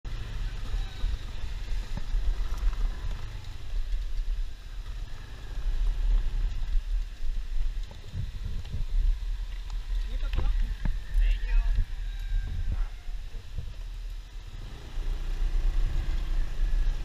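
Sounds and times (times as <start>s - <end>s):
motorcycle engine running: 0.0s - 11.2s, 11.8s - 17.0s
wind buffeting microphone: 0.1s - 17.0s.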